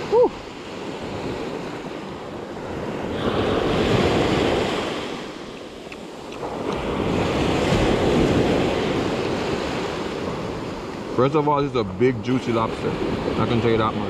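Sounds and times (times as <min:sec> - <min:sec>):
ocean waves on sandy beach: 0:00.0 - 0:14.0.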